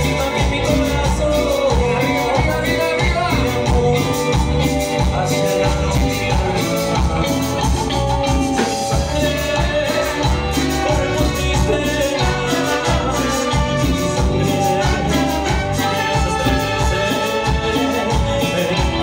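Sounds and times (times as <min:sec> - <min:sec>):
live cumbia band playing: 0:00.0 - 0:19.0
man singing: 0:00.0 - 0:19.0.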